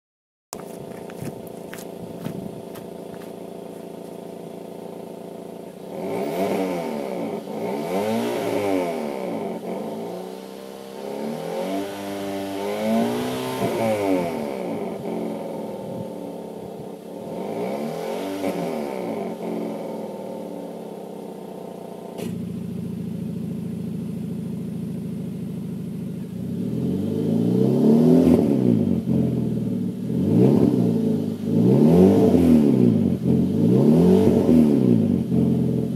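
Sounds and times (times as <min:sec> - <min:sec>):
car engine idling and revving: 0:00.6 - 0:35.9.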